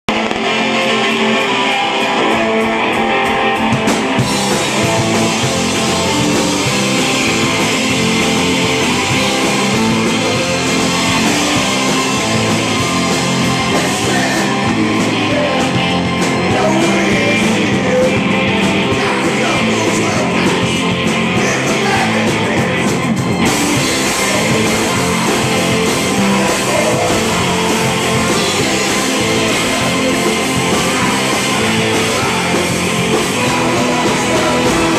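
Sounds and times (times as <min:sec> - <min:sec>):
drum kit: 0:00.0 - 0:34.9
electric guitars: 0:00.0 - 0:34.9.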